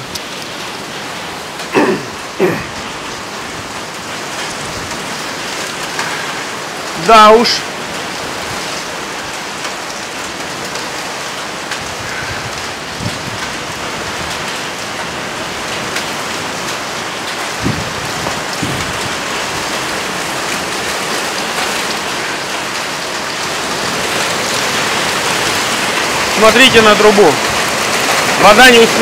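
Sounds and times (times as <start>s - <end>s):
hail and heavy rain: 0.0s - 29.0s.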